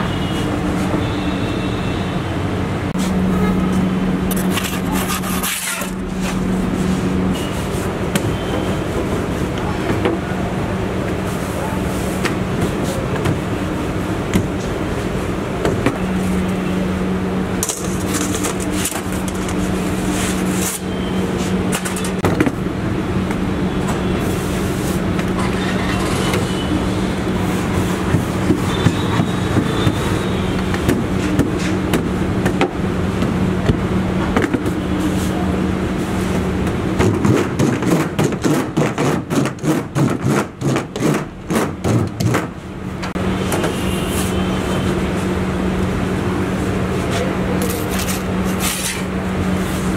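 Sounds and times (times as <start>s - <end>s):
street noise: 0.0s - 49.9s.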